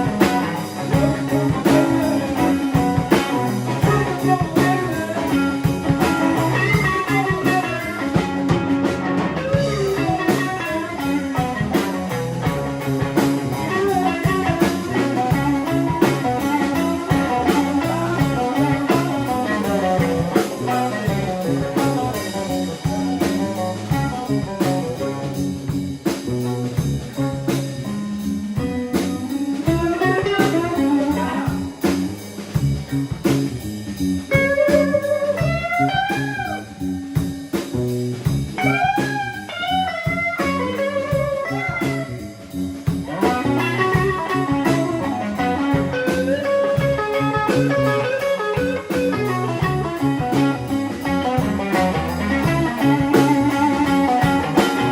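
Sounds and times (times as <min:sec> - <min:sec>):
drum kit: 0:00.0 - 0:54.9
electric bass: 0:00.0 - 0:54.9
electric guitar melodic line: 0:00.0 - 0:54.9.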